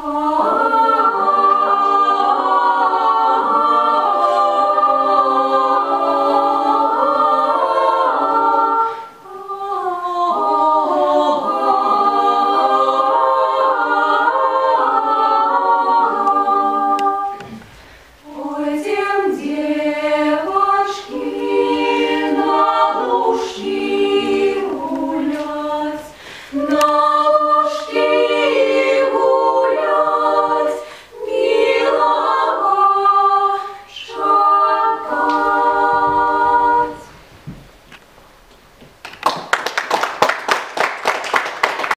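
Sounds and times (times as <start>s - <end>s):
women singing a cappella: 0.0s - 37.3s.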